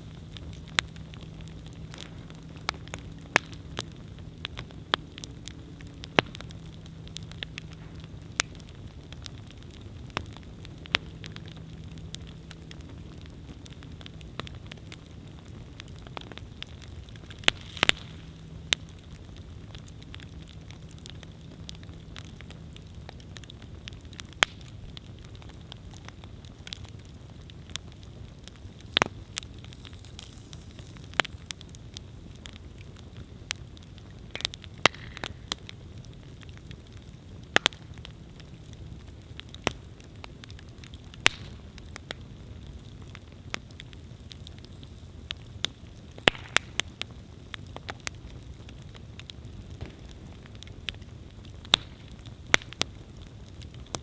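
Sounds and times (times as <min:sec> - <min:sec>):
campfire burning: 0:00.0 - 0:54.0
crackles and pops of burning logs: 0:00.0 - 0:54.0.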